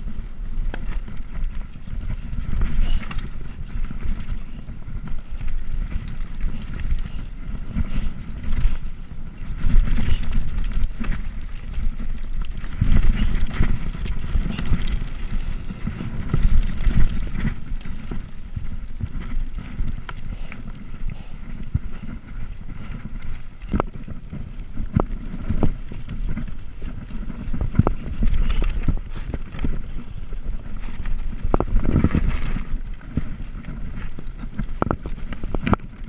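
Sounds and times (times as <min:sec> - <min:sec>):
faint ticks and rattles: 0:00.0 - 0:36.0
wind buffeting microphone: 0:00.0 - 0:36.0.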